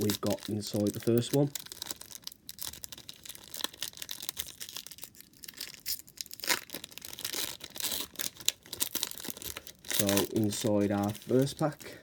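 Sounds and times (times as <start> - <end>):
plastic wrapper tearing and crinkling: 0.0 - 12.0.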